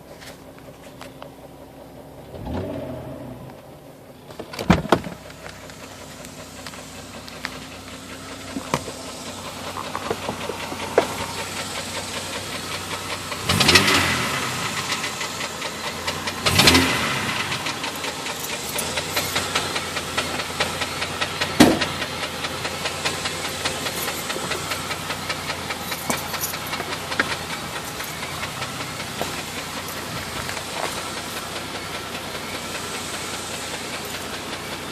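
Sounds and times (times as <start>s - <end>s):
engine knocking: 3.7s - 34.9s.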